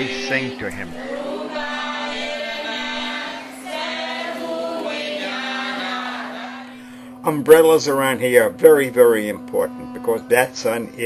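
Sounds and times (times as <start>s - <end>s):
group chanting prayers: 0.0s - 11.0s.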